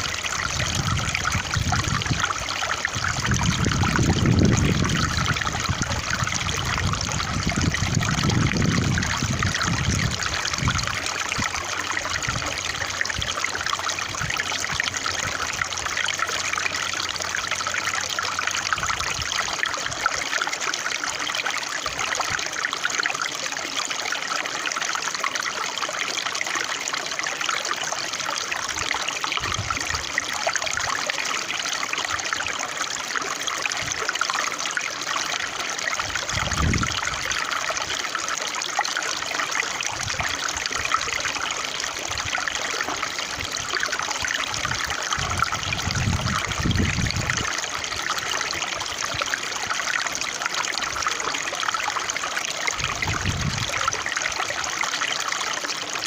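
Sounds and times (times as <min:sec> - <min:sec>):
stream trickling: 0:00.0 - 0:56.0.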